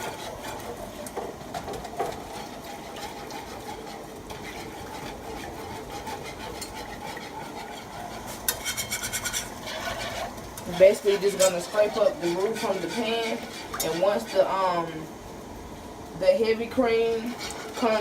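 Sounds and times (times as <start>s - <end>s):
utensil scraping nonstick pan: 0.0s - 15.0s, 16.4s - 18.0s
cream stirred in a pan: 0.0s - 15.1s, 16.3s - 18.0s.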